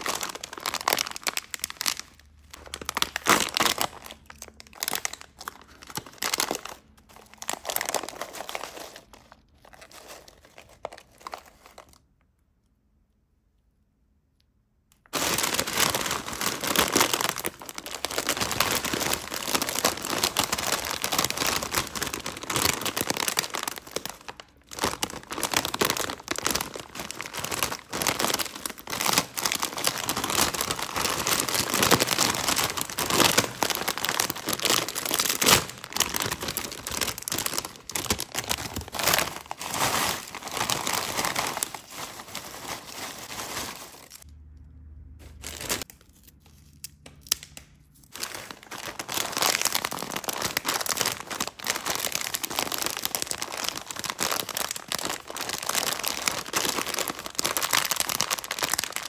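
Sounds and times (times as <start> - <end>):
plastic chip bag crinkling: 0.0 - 12.1, 15.1 - 44.3, 45.2 - 46.4, 48.1 - 59.0.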